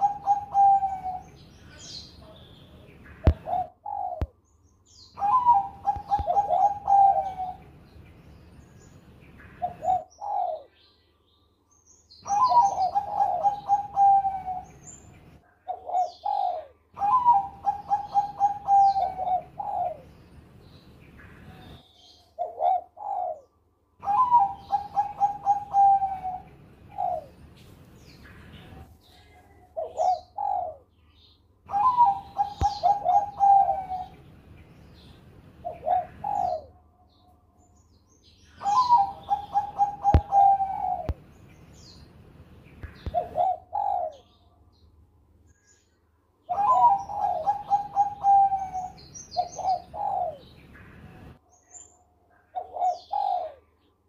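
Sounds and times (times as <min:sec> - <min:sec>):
dove cooing song: 0:00.0 - 0:02.4, 0:03.0 - 0:07.9, 0:09.4 - 0:10.9, 0:12.2 - 0:20.2, 0:21.1 - 0:31.0, 0:31.6 - 0:34.4, 0:35.0 - 0:37.5, 0:38.4 - 0:42.0, 0:42.8 - 0:44.8, 0:45.5 - 0:53.9.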